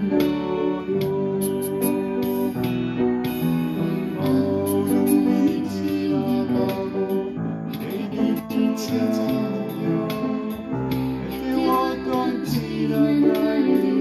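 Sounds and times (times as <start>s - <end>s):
piano ballad: 0.0s - 14.0s.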